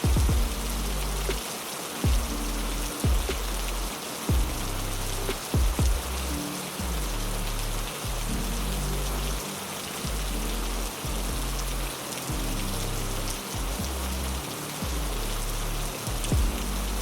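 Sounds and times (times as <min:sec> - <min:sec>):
heavy rain hiss: 0:00.0 - 0:17.0
low sustained music tones: 0:00.0 - 0:17.0.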